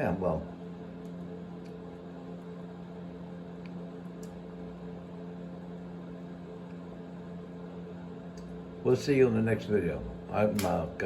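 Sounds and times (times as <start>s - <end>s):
low mechanical motor hum: 0.0s - 11.0s.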